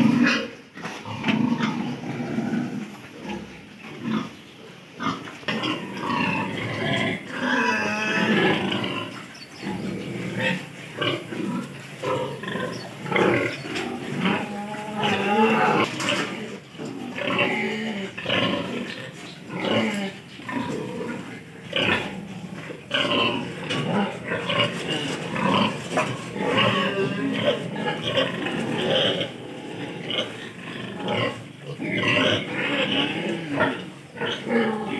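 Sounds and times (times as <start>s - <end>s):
piglets grunting: 0.0s - 4.4s, 5.0s - 34.9s.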